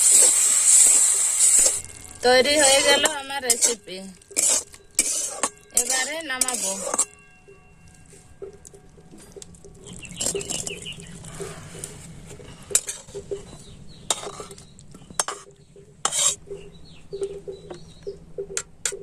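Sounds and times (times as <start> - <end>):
metal spoon scraping a pan: 0.0 - 7.2, 7.9 - 16.6
sharp clanks: 1.5 - 19.0.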